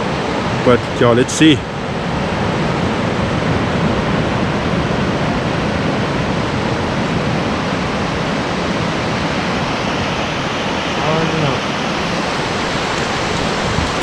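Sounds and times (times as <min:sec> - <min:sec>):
surf breaking on beach: 0:00.0 - 0:14.0.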